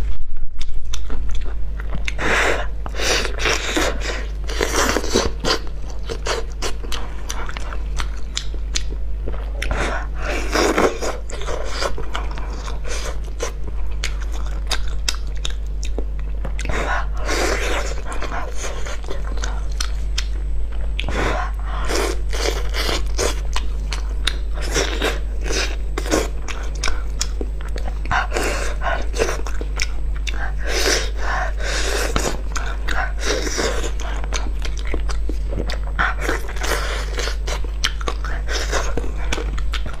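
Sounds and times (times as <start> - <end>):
steady low hum: 0.0 - 40.0
chewing and biting: 0.5 - 40.0.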